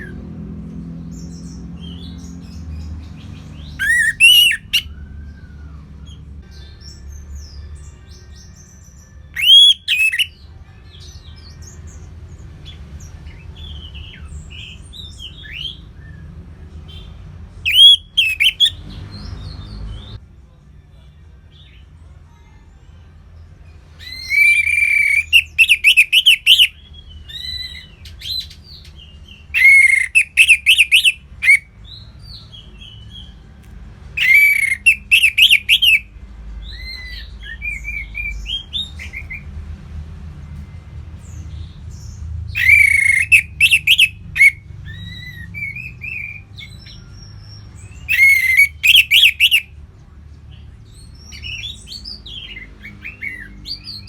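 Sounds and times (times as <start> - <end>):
songbird singing: 0.0 - 20.6, 23.4 - 39.6, 40.6 - 54.0.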